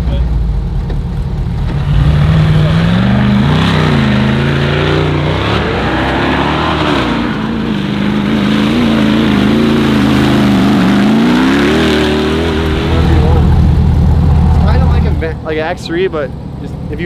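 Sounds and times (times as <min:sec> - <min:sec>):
truck engine revving: 0:01.4 - 0:17.0.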